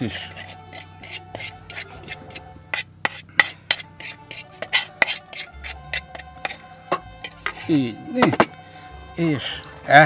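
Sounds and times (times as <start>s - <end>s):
utensil scraping a wooden bowl: 0.0s - 8.5s.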